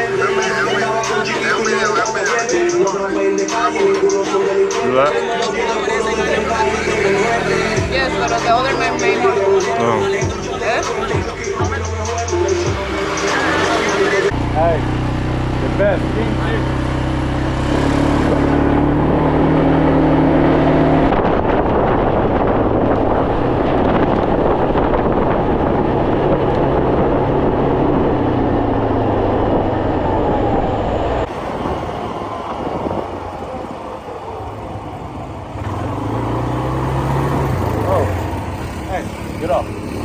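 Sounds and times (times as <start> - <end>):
road and wind noise: 0.0 - 40.0
vehicle engine running: 5.6 - 40.0.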